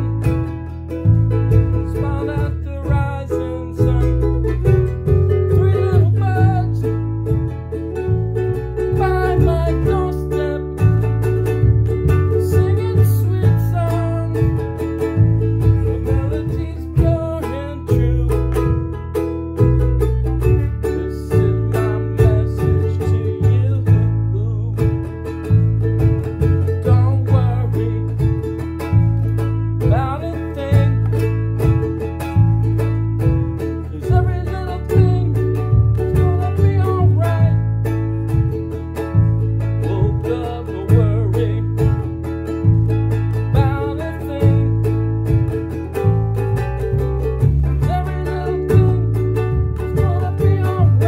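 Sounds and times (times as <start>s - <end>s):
low bass notes: 0.0s - 51.0s
ukulele strumming: 0.0s - 51.0s
man singing: 1.5s - 7.4s, 8.6s - 18.8s, 20.3s - 25.2s, 26.4s - 31.7s, 33.6s - 38.1s, 39.0s - 46.0s, 47.0s - 51.0s.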